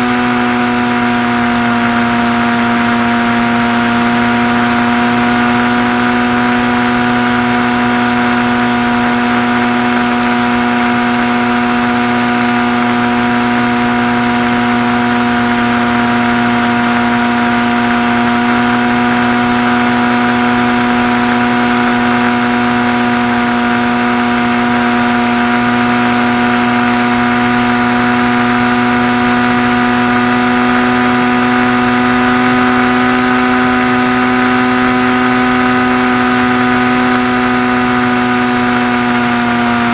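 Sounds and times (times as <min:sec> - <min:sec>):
model plane motor drone: 0:00.0 - 0:39.9.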